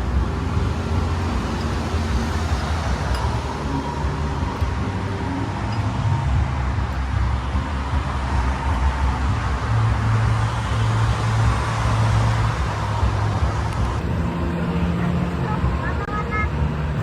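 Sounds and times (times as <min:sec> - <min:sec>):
engine hum: 0:00.0 - 0:17.0
road traffic rumble: 0:00.0 - 0:17.0.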